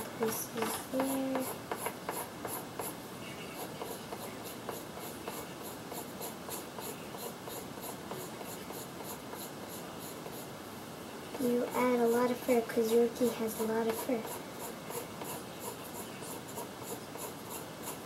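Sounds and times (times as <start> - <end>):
pencil scratching on paper: 0.0 - 10.5, 11.3 - 18.0.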